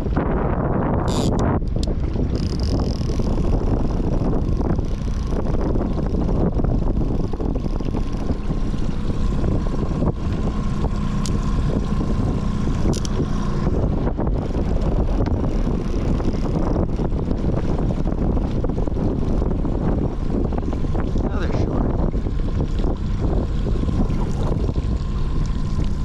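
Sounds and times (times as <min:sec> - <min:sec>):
boat motor running: 0:00.0 - 0:26.0
wind noise on microphone: 0:00.0 - 0:26.0.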